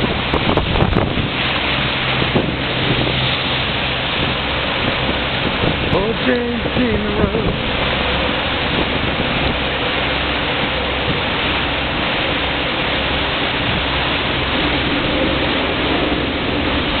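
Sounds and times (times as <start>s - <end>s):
boat engine droning: 0.0s - 17.0s
rush of wind and water: 0.0s - 17.0s.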